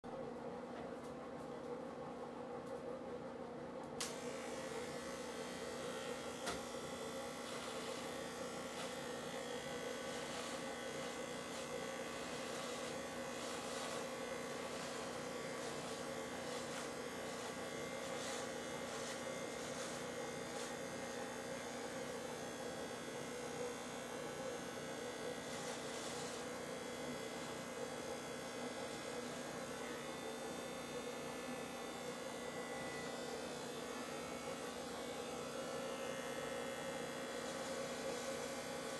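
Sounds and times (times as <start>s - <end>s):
electric hair clipper running: 4.0s - 38.9s.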